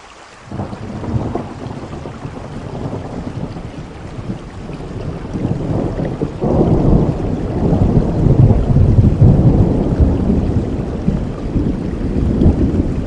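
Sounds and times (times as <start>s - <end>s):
steady rainfall: 0.0s - 13.0s
thunder rumble: 0.5s - 13.0s.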